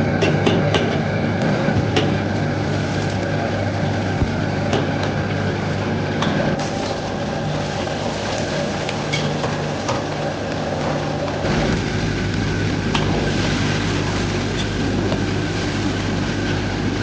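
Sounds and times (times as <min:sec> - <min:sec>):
food frying in hot oil: 0:00.0 - 0:17.0
gas burner and blower rumble: 0:00.0 - 0:17.0.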